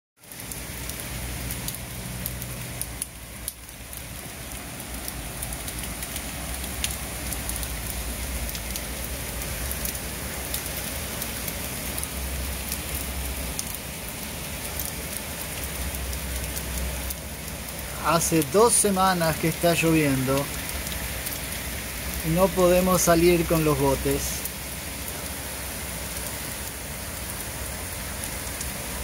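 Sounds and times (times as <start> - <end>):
heavy rain pouring: 0.2 - 29.0
raindrops ticking: 0.2 - 29.0.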